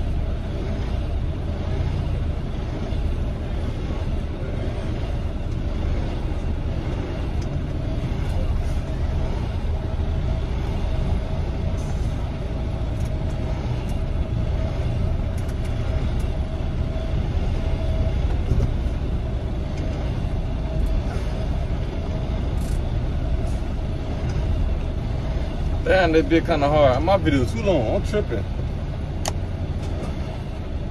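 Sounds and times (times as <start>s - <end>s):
diesel truck engine rumbling: 0.0s - 30.9s.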